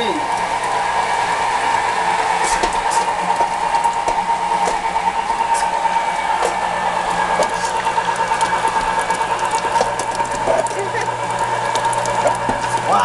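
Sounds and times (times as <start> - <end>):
milling machine humming: 0.0 - 13.0.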